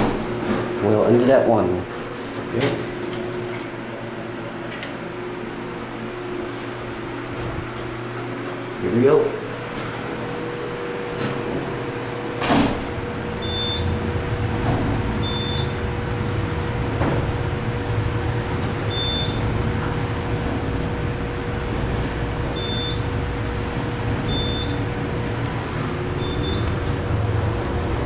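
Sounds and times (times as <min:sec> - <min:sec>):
constant hum: 0:00.0 - 0:28.0
elevator cab rumble: 0:00.0 - 0:28.0
elevator doors closing: 0:00.0 - 0:28.0.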